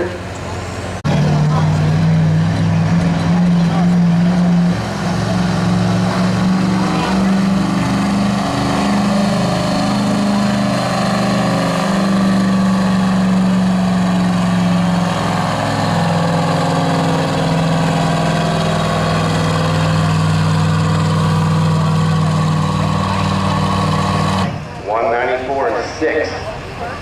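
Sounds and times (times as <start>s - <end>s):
diesel truck engine at high revs: 0.0s - 25.0s.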